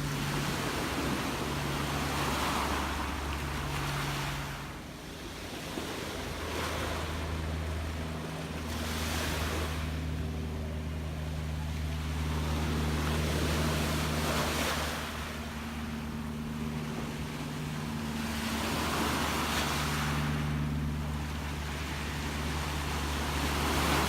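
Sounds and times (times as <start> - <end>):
gentle sea waves washing in: 0.0 - 24.0
steady low hum: 0.0 - 24.0.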